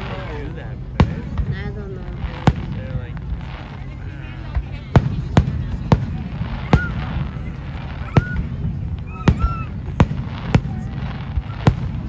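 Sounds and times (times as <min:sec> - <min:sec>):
fireworks bangs: 0:00.0 - 0:12.0
steady low rumble: 0:00.0 - 0:12.0.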